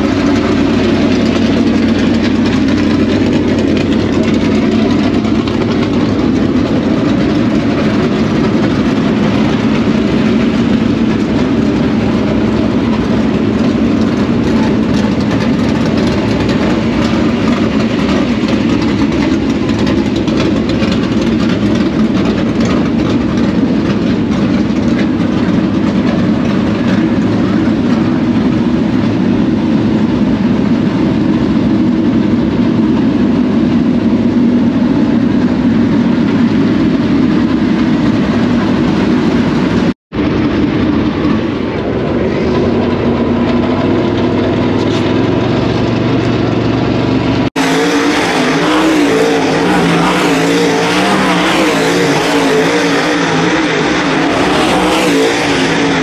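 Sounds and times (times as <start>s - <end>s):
race car engines running: 0.0s - 56.0s
race cars revving: 0.0s - 56.0s.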